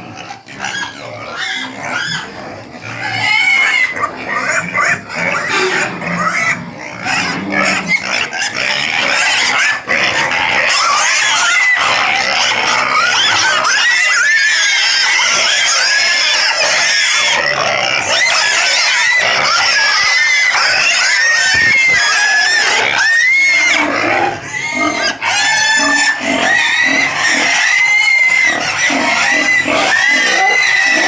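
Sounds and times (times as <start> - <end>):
pigs grunting: 0.0 - 31.0
pigs squealing: 0.0 - 31.0.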